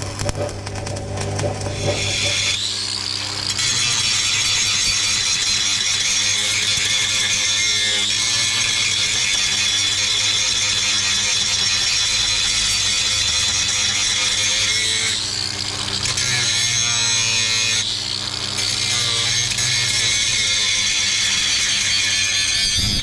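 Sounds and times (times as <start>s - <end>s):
angle grinder spinning: 0.0s - 23.0s.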